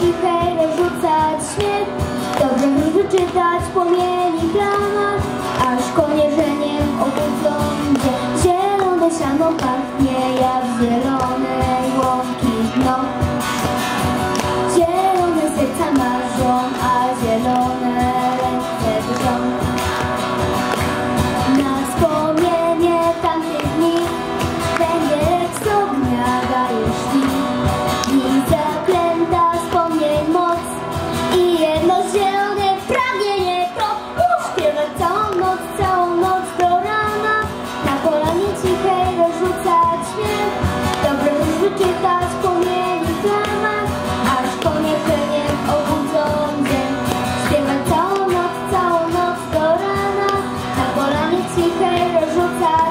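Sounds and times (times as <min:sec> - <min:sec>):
girl singing into a microphone: 0:00.0 - 0:52.9
instrumental accompaniment with beat: 0:00.0 - 0:52.9.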